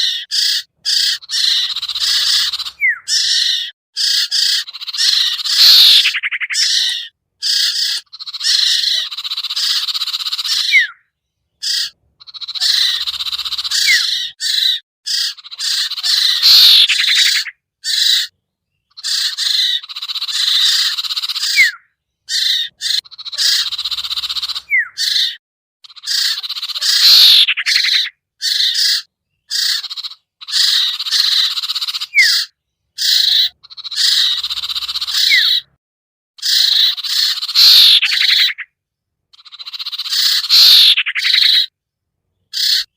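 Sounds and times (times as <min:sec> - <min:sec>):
bird chirps and trills: 0:00.0 - 0:35.8, 0:36.4 - 0:38.8, 0:39.4 - 0:41.7, 0:42.3 - 0:42.9.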